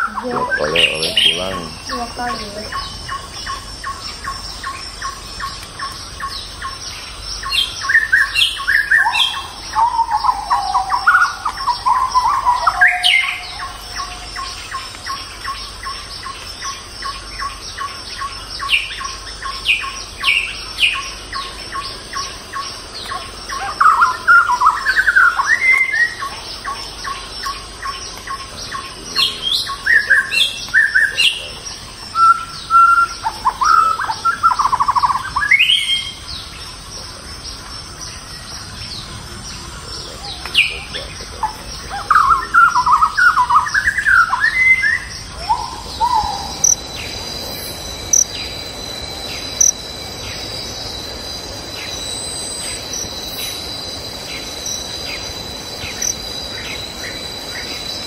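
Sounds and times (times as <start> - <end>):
high-pitched whine: 0.0 - 17.9, 18.9 - 58.0
birds chirping and singing: 0.0 - 58.0.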